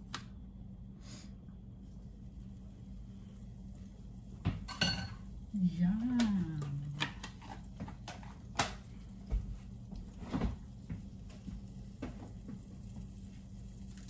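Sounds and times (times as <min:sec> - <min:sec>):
refrigerator hum: 0:00.0 - 0:14.0.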